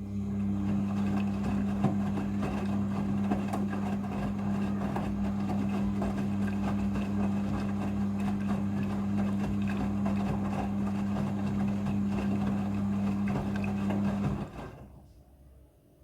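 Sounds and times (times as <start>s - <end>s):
washing machine humming: 0.0s - 15.2s.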